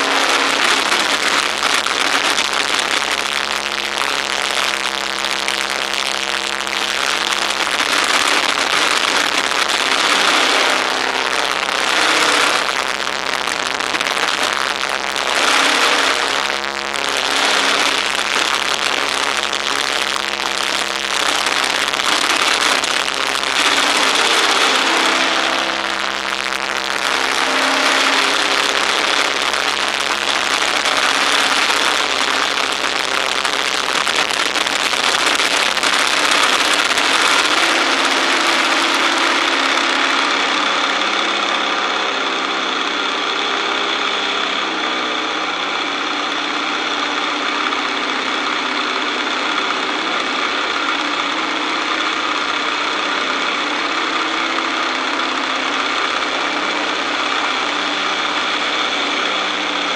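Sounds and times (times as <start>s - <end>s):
biplane engine running: 0.0s - 50.0s.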